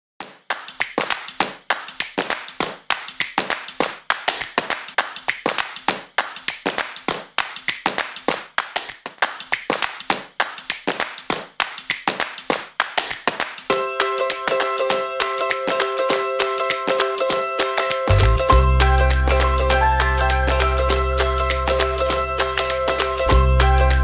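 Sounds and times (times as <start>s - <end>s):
rhythmic hand clapping: 0.2s - 24.0s.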